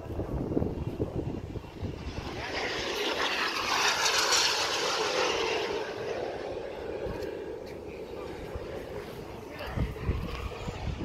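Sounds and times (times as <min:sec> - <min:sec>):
model airplane engine flying past: 0:00.0 - 0:11.0
wind buffeting microphone: 0:00.0 - 0:11.0.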